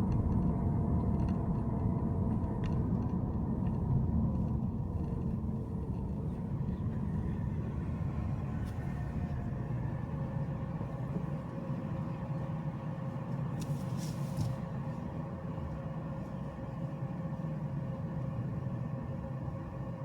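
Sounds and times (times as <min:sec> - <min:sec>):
car road and engine rumble: 0:00.0 - 0:20.0
faint steady whine: 0:00.0 - 0:20.0.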